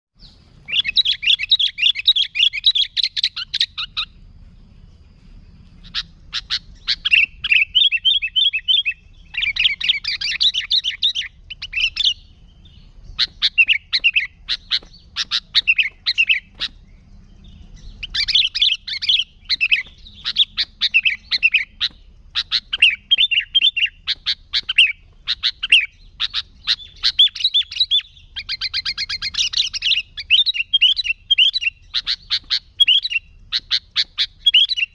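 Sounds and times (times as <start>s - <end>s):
bird chattering song: 0.2s - 34.9s.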